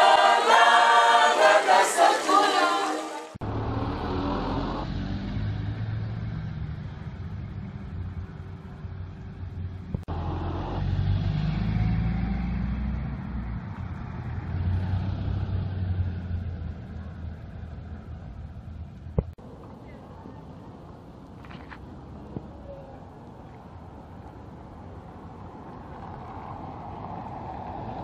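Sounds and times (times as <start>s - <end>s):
road noise: 0.0s - 28.0s
car engine hum: 3.4s - 28.0s.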